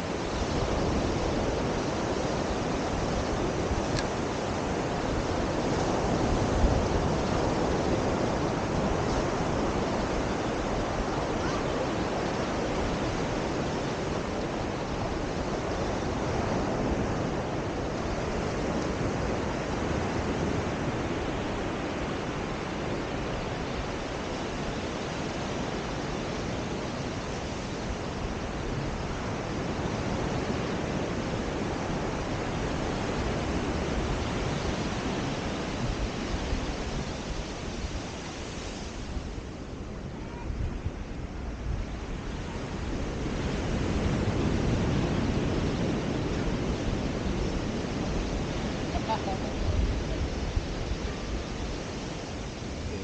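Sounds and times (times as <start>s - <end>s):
ocean surf washing in: 0.0s - 53.0s
wind rumbling on microphone: 0.0s - 53.0s.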